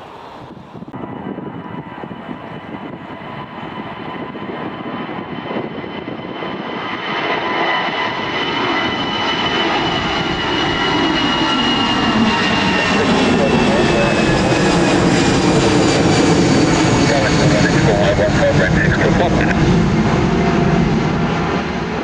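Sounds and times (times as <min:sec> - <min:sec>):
jet airliner taking off: 0:00.0 - 0:22.0.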